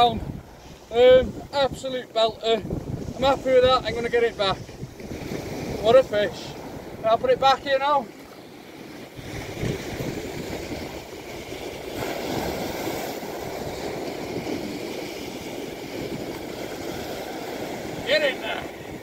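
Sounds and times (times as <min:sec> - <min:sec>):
waves breaking on shingle shore: 0:00.0 - 0:19.0
wind buffeting microphone: 0:00.0 - 0:19.0.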